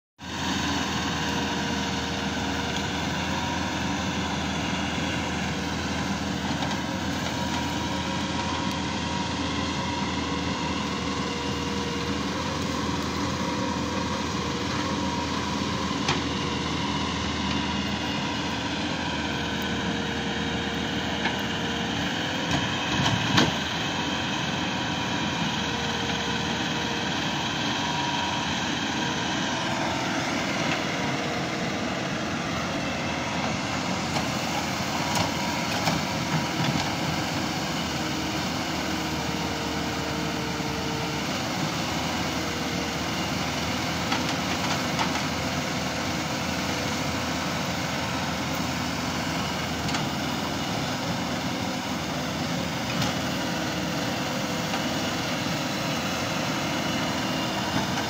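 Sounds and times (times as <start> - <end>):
diesel engine running: 0.2 - 58.0.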